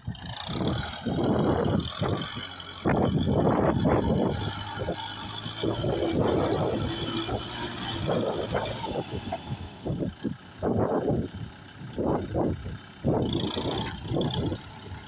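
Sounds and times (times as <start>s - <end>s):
tractor engine under load: 0.0s - 15.0s.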